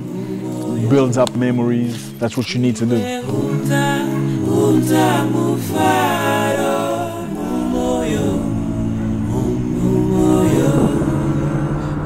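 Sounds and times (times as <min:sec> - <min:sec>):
voices singing together: 0:00.0 - 0:12.0.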